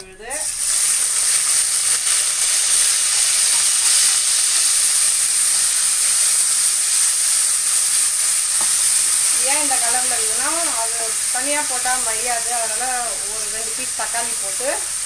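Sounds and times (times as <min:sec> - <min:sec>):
paste sizzling in hot oil: 0:00.1 - 0:15.0.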